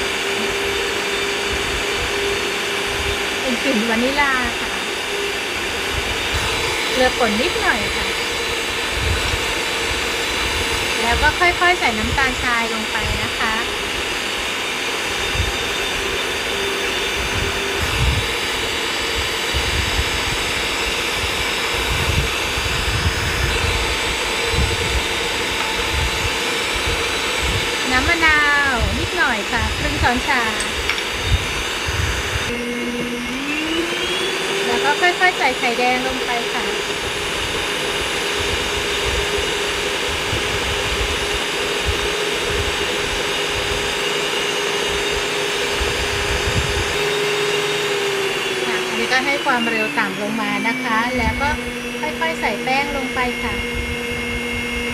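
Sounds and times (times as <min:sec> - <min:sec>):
stand mixer motor running: 0:00.0 - 0:54.9.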